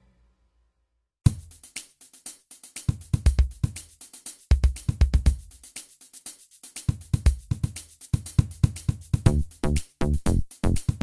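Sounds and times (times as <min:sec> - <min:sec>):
electronic music with drum-machine beat: 0:01.3 - 0:06.0, 0:06.6 - 0:11.0.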